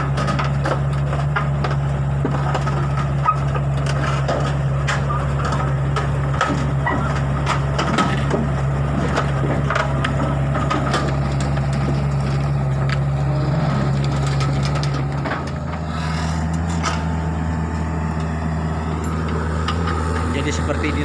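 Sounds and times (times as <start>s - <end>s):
excavator tracks knocking and clanking: 0.0s - 15.9s, 19.0s - 21.0s
diesel engine running: 0.0s - 21.0s.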